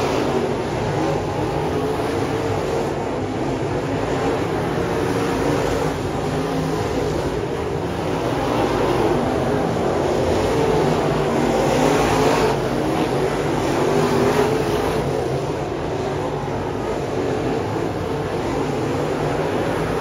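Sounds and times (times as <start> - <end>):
race car engines running hard: 0.0 - 20.0.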